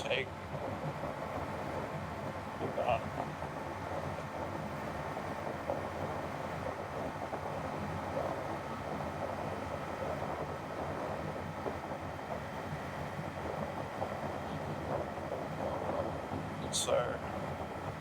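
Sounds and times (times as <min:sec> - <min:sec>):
wind noise: 0:00.0 - 0:18.0.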